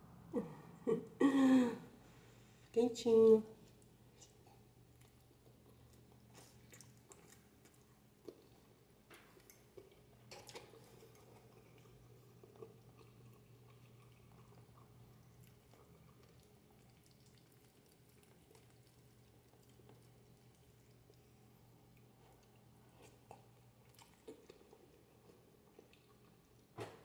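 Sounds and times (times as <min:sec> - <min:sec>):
low steady hum: 0:00.0 - 0:27.0
person chewing: 0:03.6 - 0:26.7.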